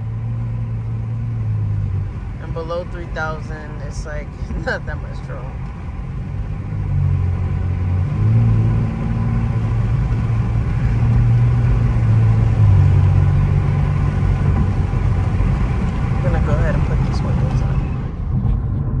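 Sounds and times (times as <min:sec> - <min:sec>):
low exhaust drone: 0:00.0 - 0:19.0
road noise: 0:00.0 - 0:19.0.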